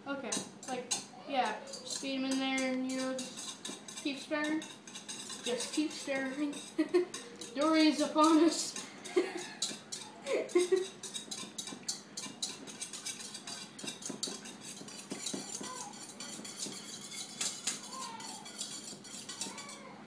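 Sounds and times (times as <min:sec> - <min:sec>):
metal whisk clinking in metal bowl: 0:00.3 - 0:19.9.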